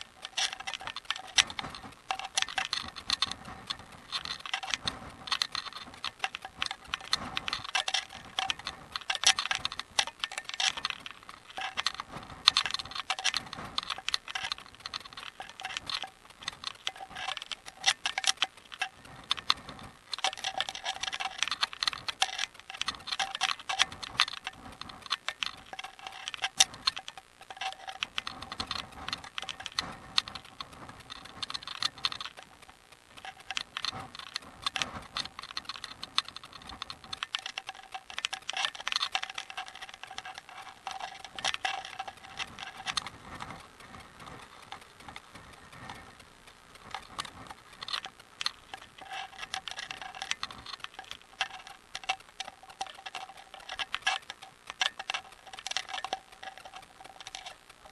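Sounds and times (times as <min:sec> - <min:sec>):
bicycle ticking and rattling: 0:00.0 - 0:57.9
faint steady tone: 0:00.0 - 0:57.9.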